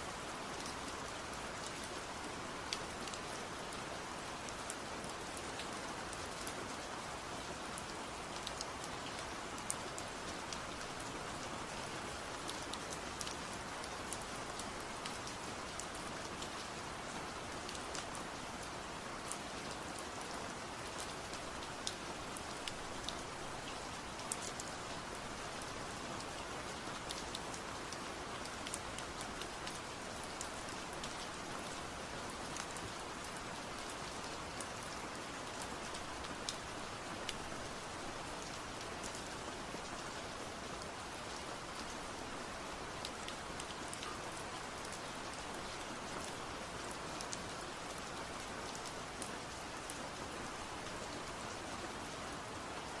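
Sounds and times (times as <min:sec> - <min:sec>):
steady rain falling: 0:00.0 - 0:53.0
raindrops ticking on a surface: 0:00.1 - 0:53.0.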